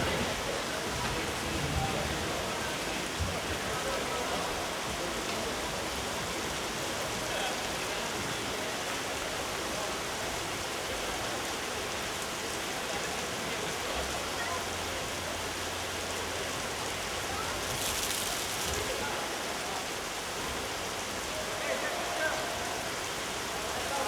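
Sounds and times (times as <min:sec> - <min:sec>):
heavy rain on a roof: 0:00.0 - 0:24.0
murmur of voices: 0:00.0 - 0:24.0.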